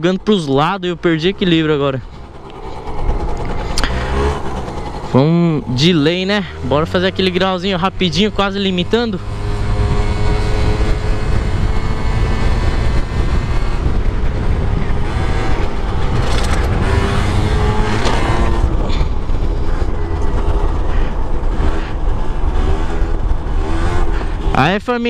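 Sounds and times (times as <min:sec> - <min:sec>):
wind buffeting microphone: 0:00.5 - 0:24.6
scooter engine at high revs: 0:01.0 - 0:24.8.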